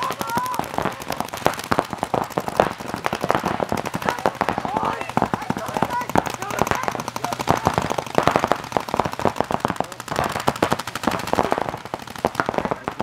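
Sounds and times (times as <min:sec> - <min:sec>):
paintball markers firing rapidly: 0:00.0 - 0:13.0.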